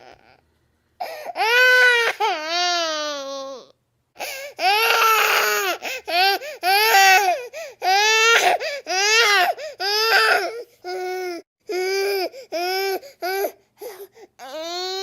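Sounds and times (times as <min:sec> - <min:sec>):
baby crying: 0:01.0 - 0:15.0.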